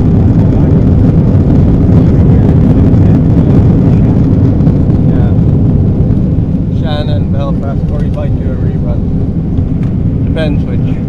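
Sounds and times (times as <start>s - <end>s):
jet engines and airflow rumble: 0.0s - 11.0s.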